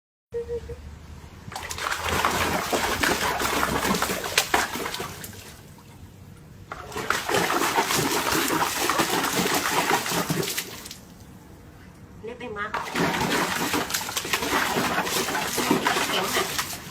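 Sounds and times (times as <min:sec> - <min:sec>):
water splashing and sloshing: 0:01.5 - 0:11.5, 0:12.7 - 0:16.9.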